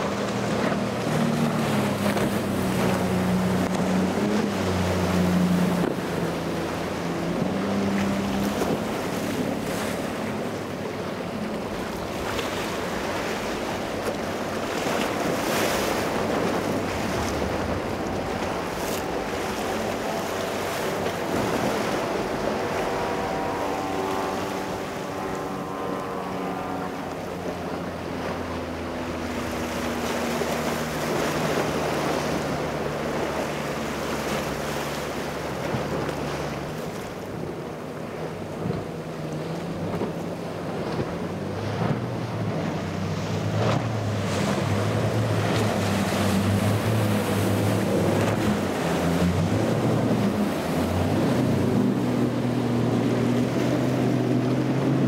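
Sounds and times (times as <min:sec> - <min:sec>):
boat engines passing: 0:00.0 - 0:55.0
surf: 0:00.0 - 0:55.0
wind on microphone: 0:00.0 - 0:55.0.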